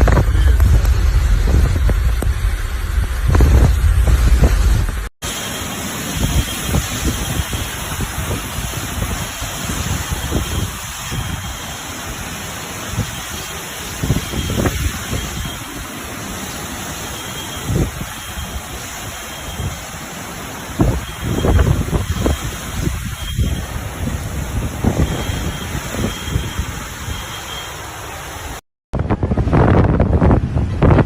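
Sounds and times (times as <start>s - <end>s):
wind buffeting microphone: 0.0s - 5.1s, 6.1s - 19.9s, 20.6s - 27.2s, 28.9s - 31.0s
wind and rain rushing: 0.0s - 31.0s.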